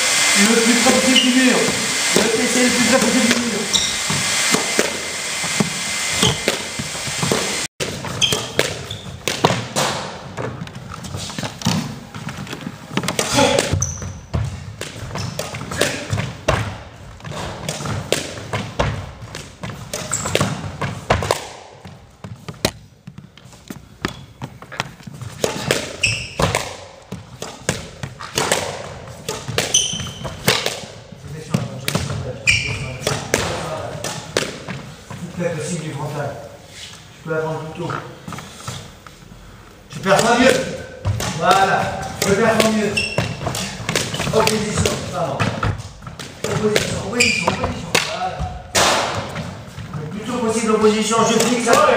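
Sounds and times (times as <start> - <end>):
ball hitting wall and floor: 0.0 - 36.0, 39.9 - 51.9
shoes squeaking on court: 1.0 - 1.8, 2.9 - 37.1, 39.9 - 51.9
squash racket strikes: 2.9 - 35.3, 40.0 - 50.1, 51.2 - 51.9.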